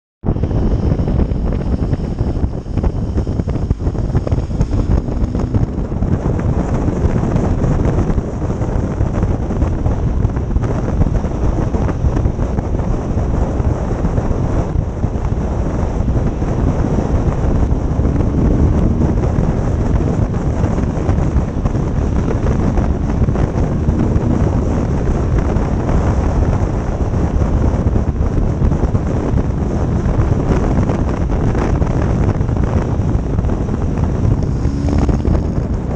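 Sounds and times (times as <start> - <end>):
motorcycle engine running: 0.2 - 35.9
wind buffeting microphone: 0.2 - 35.9.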